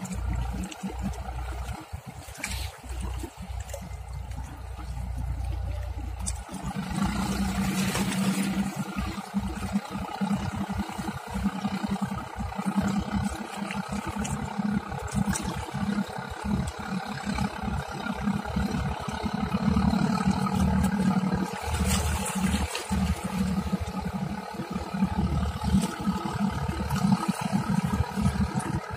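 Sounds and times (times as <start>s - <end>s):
ferry engines humming: 0.0s - 28.9s.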